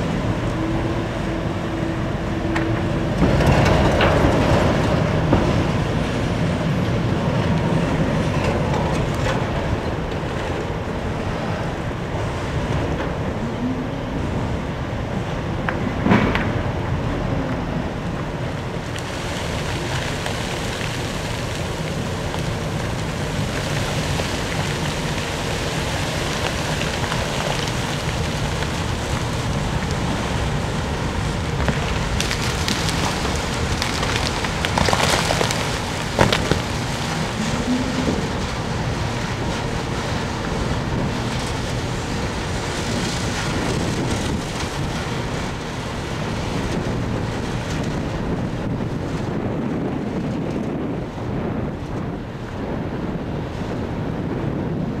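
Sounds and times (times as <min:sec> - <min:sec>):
low machinery hum: 0:00.0 - 0:55.0
wind on microphone: 0:00.0 - 0:55.0.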